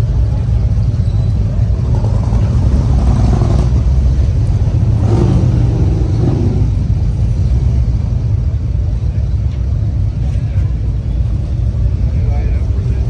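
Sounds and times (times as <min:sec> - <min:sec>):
motorcycle engines droning: 0:00.0 - 0:13.0.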